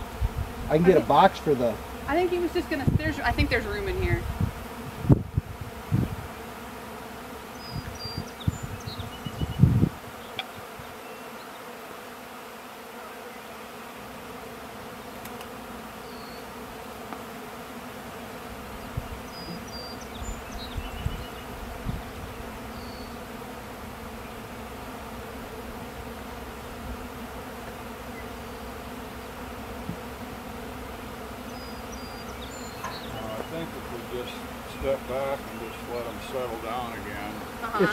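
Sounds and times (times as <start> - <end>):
bees buzzing: 0.0 - 37.9.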